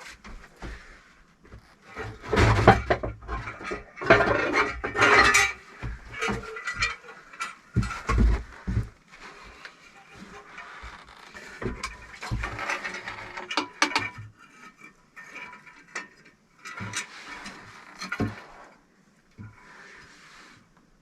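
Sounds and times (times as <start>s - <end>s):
scraping of bricks and mortar: 0.0s - 18.8s.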